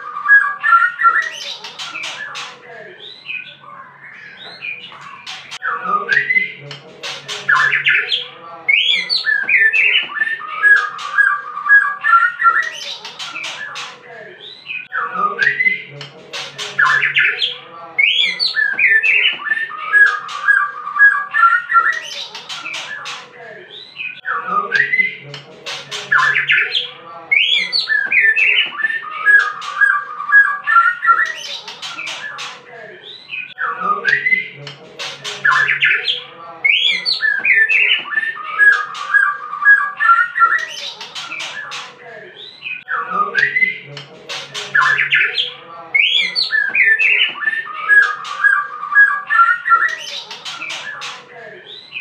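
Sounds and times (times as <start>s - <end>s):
harsh chattering bird calls: 0.0s - 52.0s
songbird singing whistled song: 0.0s - 52.0s.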